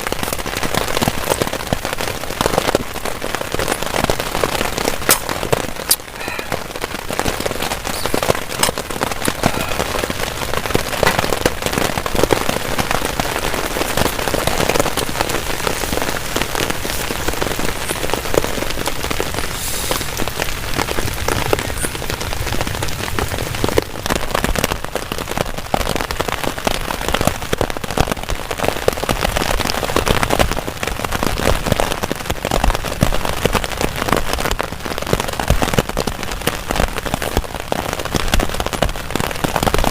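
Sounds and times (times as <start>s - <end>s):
heavy rain on a tarp: 0.0s - 39.9s.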